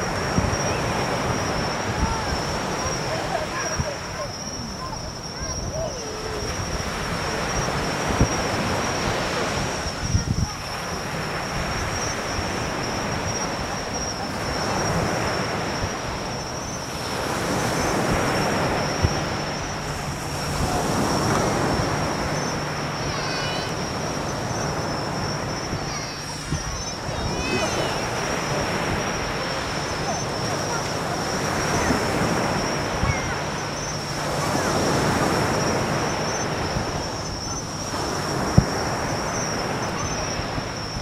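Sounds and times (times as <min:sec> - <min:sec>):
steady wash of noise: 0:00.0 - 0:41.0.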